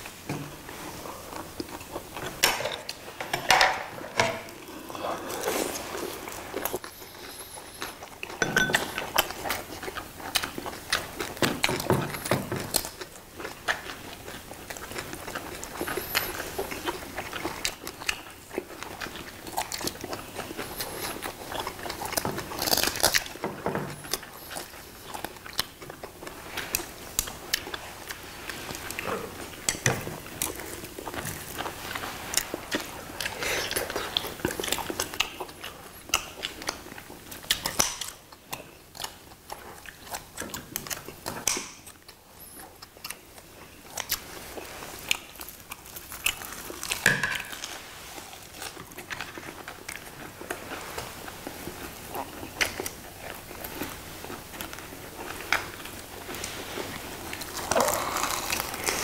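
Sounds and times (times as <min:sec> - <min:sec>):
chewing and biting: 0:04.6 - 0:59.0.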